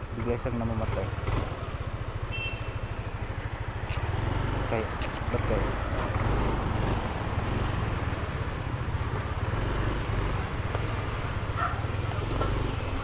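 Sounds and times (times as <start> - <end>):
scooter engine rumble: 0.0 - 13.0.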